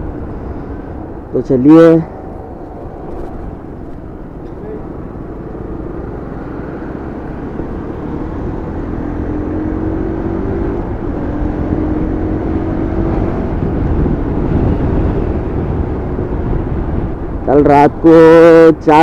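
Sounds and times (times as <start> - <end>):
motorcycle engine accelerating: 0.0 - 17.5.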